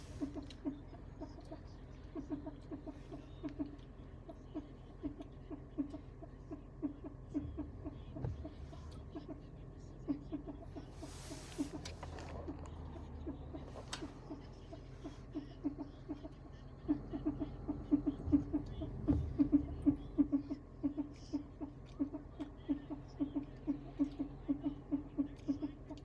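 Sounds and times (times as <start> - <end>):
car chirping ticks: 0.0 - 26.0
low steady hum: 0.0 - 26.0.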